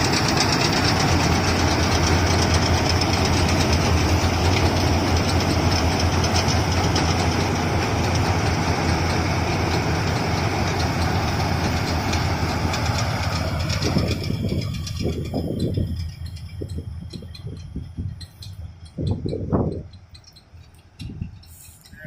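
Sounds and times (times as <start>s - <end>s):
combine harvester running: 0.0s - 22.0s
fast mechanical rattle: 0.0s - 22.0s.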